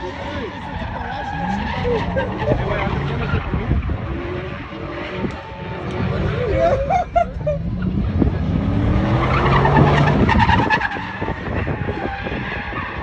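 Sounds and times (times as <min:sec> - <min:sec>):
tires squealing on pavement: 0:00.0 - 0:13.0
truck engine revving: 0:00.7 - 0:13.0.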